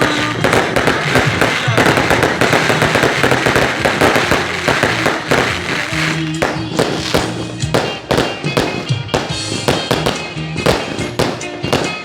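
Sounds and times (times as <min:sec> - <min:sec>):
background music: 0:00.0 - 0:12.0
fireworks bangs and crackles: 0:00.0 - 0:12.0.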